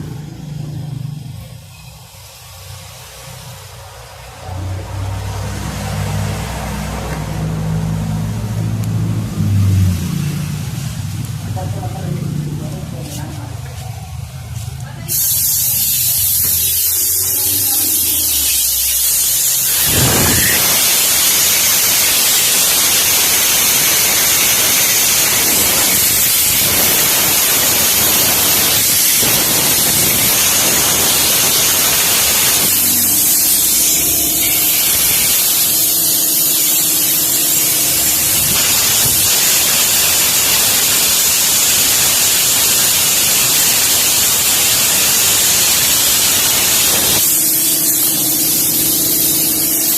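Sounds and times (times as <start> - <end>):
loud steady hissing: 0.0 - 49.9.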